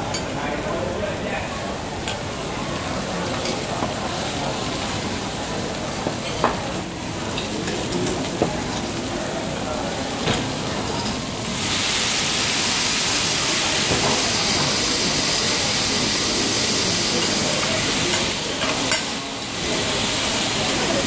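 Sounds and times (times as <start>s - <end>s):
water sizzling on hot griddle: 0.1s - 21.0s.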